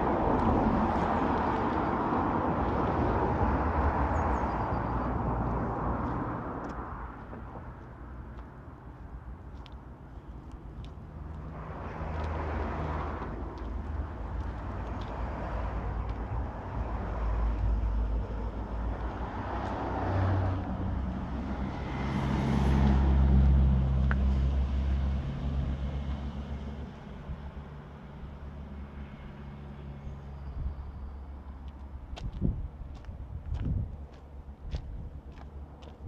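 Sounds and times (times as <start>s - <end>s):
traffic passing on road: 0.0s - 36.0s.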